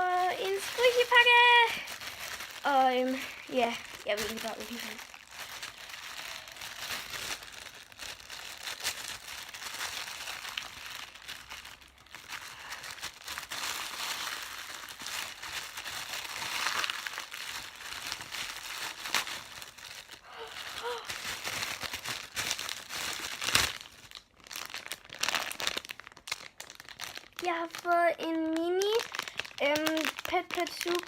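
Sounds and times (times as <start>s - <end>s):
parcel packaging crinkling: 0.0s - 31.0s.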